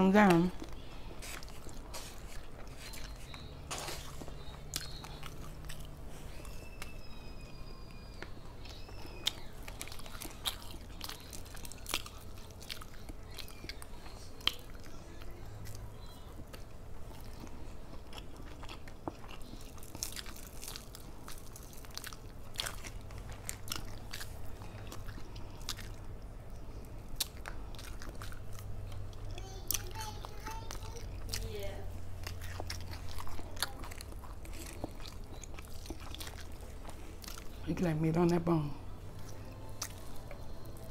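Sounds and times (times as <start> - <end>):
low steady hum: 0.0 - 40.9
crunchy chewing and biting: 0.6 - 37.7, 39.1 - 40.9.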